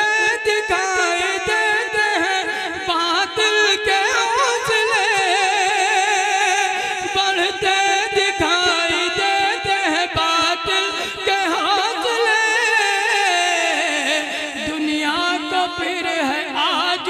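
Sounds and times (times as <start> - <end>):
man singing: 0.0 - 17.0.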